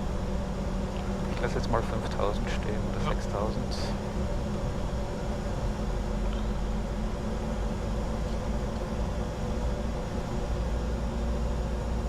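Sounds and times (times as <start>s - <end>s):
airflow and air-conditioning hiss: 0.0s - 12.0s
low even hum: 0.0s - 12.0s.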